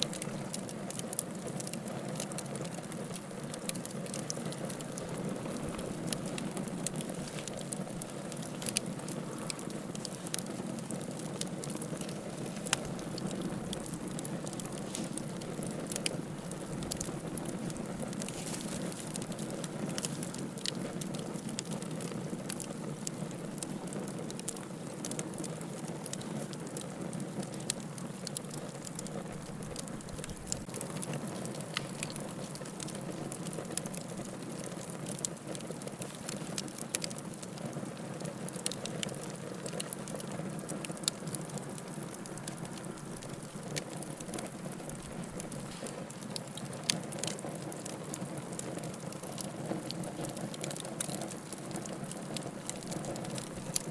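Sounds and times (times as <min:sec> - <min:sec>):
fire rushing flame: 0:00.0 - 0:53.9
firewood crackling and popping: 0:00.0 - 0:53.9.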